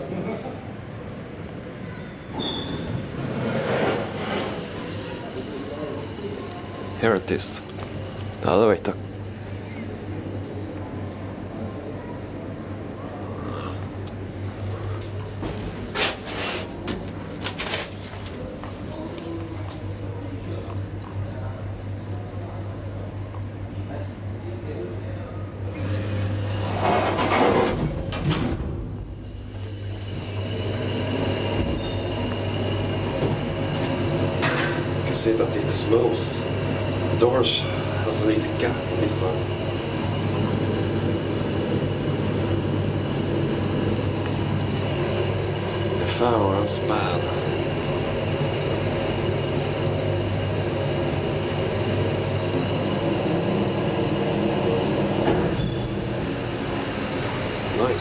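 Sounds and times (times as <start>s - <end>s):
elevator rush of noise: 0.0s - 18.5s, 25.5s - 58.0s
elevator hum: 0.0s - 58.0s.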